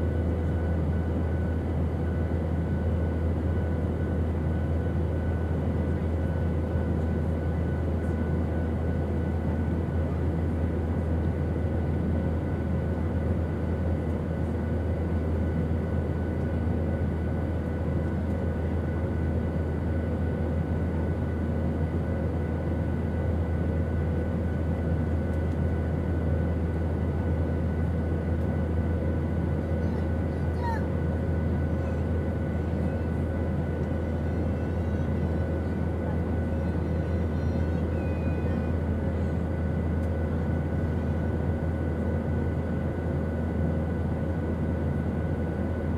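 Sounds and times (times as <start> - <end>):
airplane engine drone: 0.0 - 45.9.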